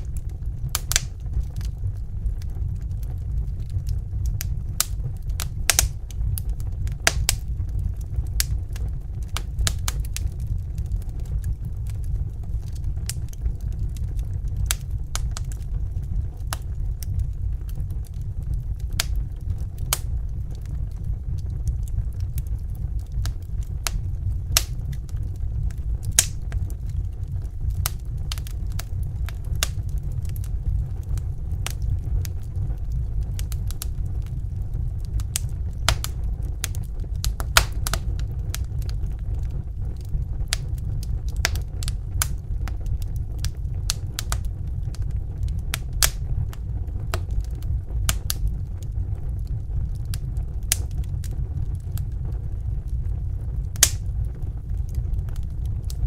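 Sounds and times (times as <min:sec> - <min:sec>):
fire crackling and popping: 0:00.0 - 0:56.0
low rumble: 0:00.0 - 0:56.0.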